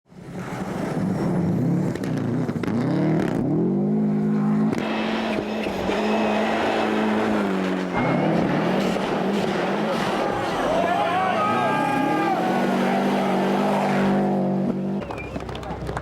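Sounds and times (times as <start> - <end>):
rally car engine revving: 0.2 - 16.0.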